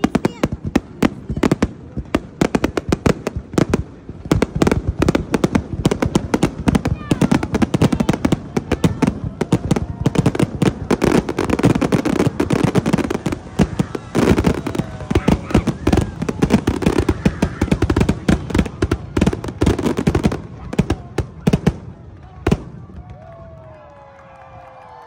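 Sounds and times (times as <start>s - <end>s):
fireworks bursting and crackling: 0.0s - 23.9s.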